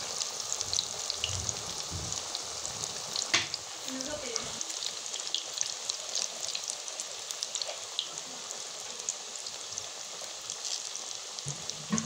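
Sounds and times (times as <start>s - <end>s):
pakoras deep-frying in oil: 0.0s - 12.0s.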